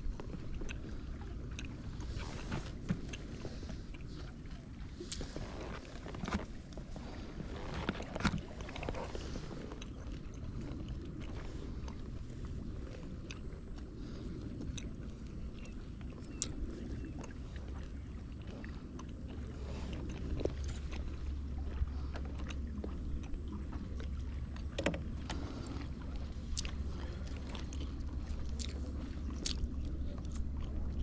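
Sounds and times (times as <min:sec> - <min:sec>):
boat engine rumble: 0:00.0 - 0:31.0.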